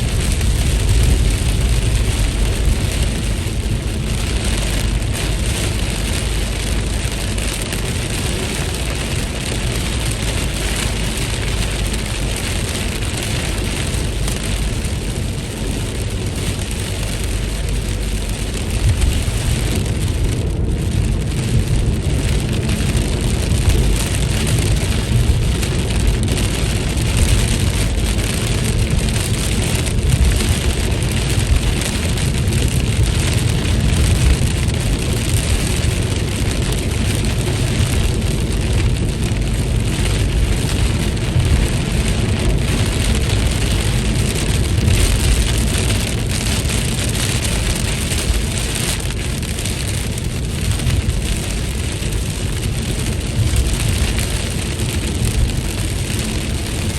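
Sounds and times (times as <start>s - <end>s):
low rumble: 0.0s - 56.9s
steady rainfall: 0.0s - 56.9s.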